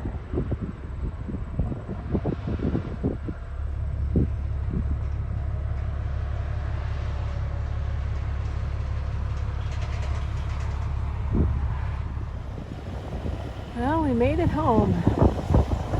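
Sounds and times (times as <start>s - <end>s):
truck engine and road noise: 0.0s - 15.9s.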